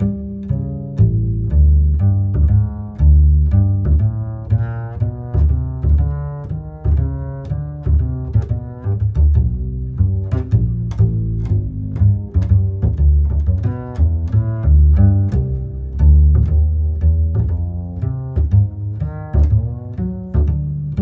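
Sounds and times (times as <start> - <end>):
low instrumental melody: 0.0 - 21.0.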